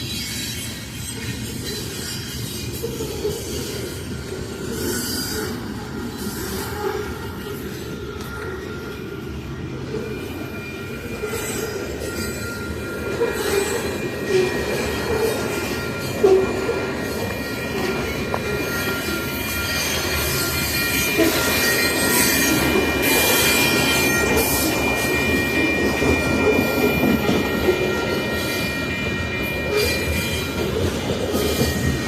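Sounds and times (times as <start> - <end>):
train cars rumbling and rattling: 0.0 - 32.0
train wheels squealing: 0.0 - 32.0.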